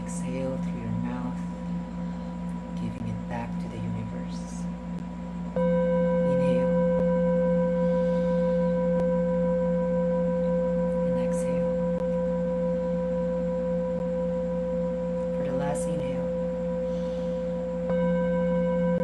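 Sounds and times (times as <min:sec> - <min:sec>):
singing bowl ringing: 0:00.0 - 0:19.0.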